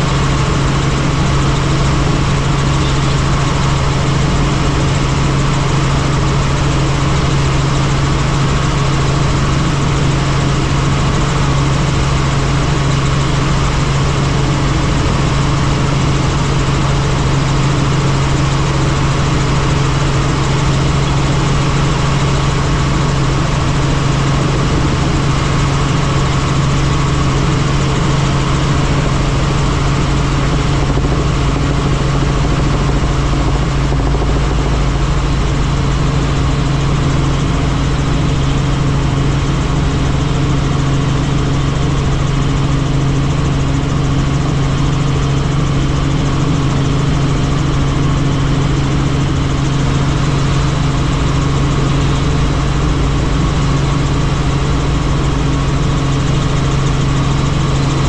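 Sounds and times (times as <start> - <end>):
helicopter engine and rotor drone: 0.0 - 58.0
steady low hum: 0.0 - 58.0.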